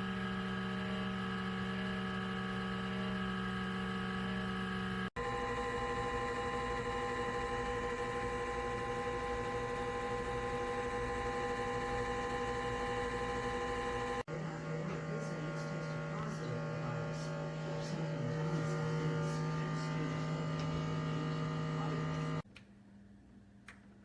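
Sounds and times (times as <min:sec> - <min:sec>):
convection fan humming: 0:00.0 - 0:24.0.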